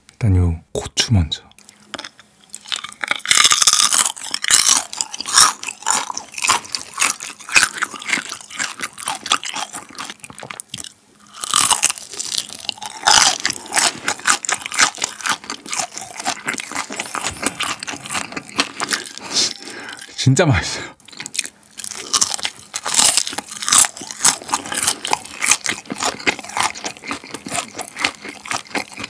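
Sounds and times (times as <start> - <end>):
crunching fried shrimp: 1.6 - 20.2, 21.0 - 29.0.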